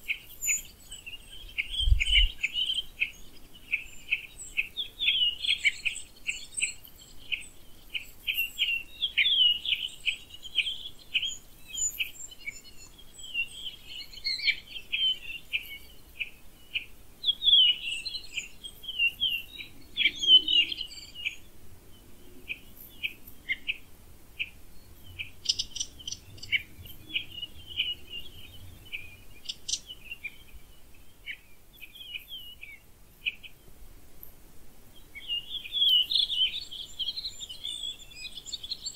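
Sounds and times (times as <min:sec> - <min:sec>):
birds chirping and trilling: 0:00.0 - 0:33.8, 0:34.9 - 0:38.9.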